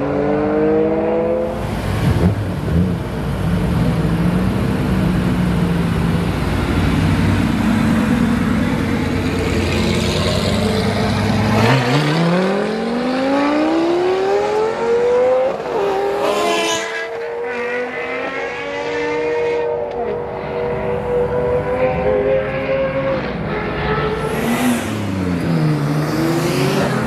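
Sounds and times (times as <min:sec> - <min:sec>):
sports car engine accelerating: 0:04.0 - 0:27.0.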